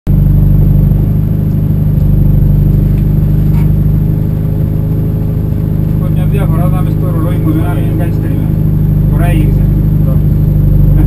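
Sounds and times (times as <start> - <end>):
rally car engine drone: 0.1 - 11.0.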